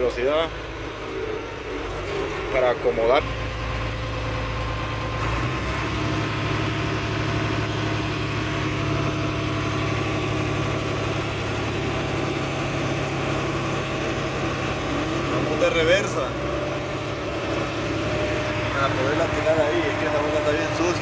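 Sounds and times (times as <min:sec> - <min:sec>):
diesel engine running steadily: 0:00.0 - 0:21.0.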